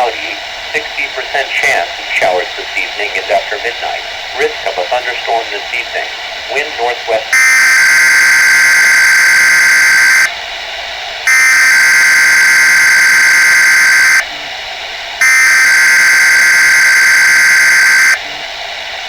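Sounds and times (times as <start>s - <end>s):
harsh buzzing data bursts: 0.0s - 10.3s, 11.3s - 14.3s, 15.2s - 18.2s.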